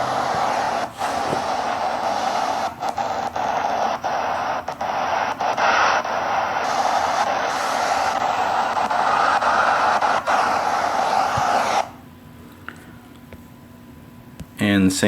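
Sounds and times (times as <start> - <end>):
white noise hiss: 0.0 - 12.1.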